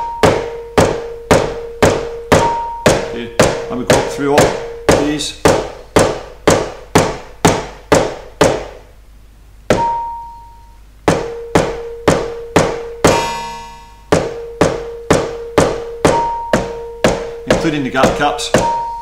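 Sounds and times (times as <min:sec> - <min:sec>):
mallets striking electronic pads: 0:00.0 - 0:08.7, 0:09.7 - 0:19.0.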